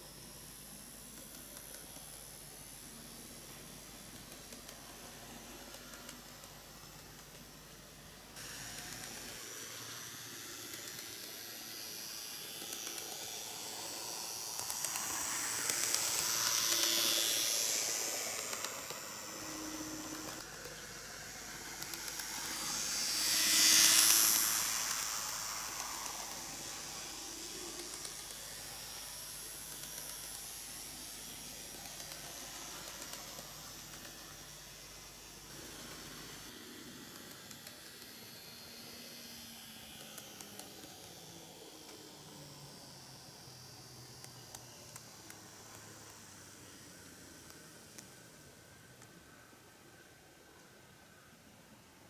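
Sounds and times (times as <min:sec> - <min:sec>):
model train motor whirring: 0:00.0 - 0:51.4.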